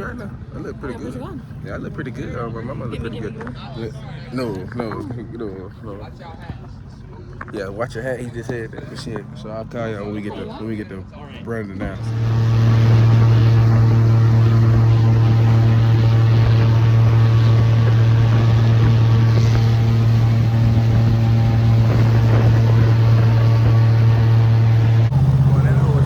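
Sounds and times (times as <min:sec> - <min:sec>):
airboat engine drone: 0:00.0 - 0:26.0.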